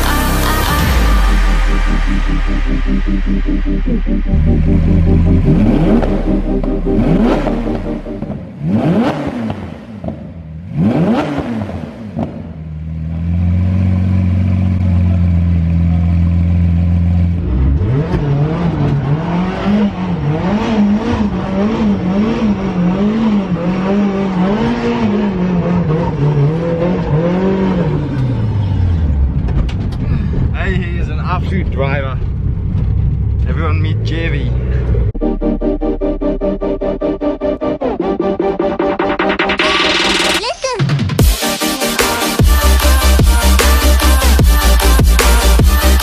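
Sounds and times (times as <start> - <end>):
car engine revving and idling: 0.0 - 40.4, 41.0 - 46.0.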